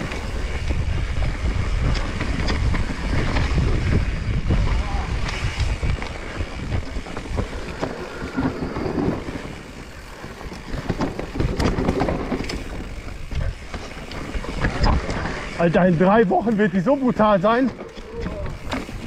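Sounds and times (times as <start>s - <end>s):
wind buffeting microphone: 0.0s - 15.8s
bike rattling clicks: 0.0s - 19.0s
bike tyres crunching over dirt: 0.0s - 19.0s.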